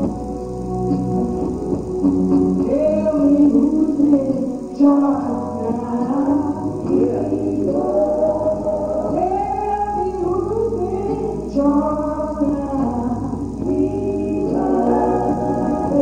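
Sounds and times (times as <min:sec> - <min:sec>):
low musical accompaniment: 0:00.0 - 0:16.0
group singing gospel: 0:02.2 - 0:16.0.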